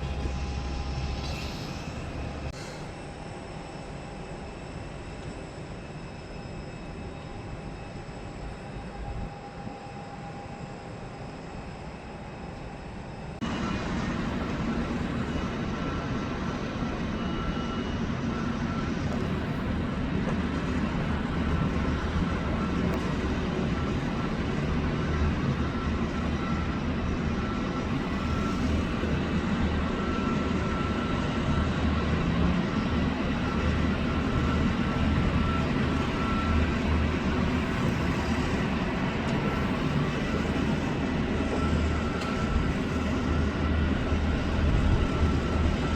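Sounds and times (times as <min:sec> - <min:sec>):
jet airliner engines approaching: 0:00.0 - 0:45.9.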